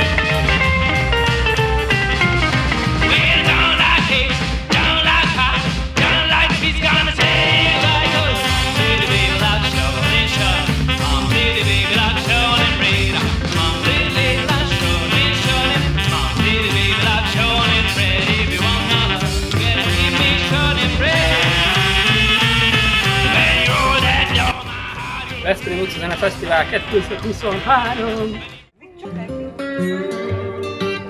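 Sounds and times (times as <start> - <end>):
rockabilly band music: 0.0 - 28.8.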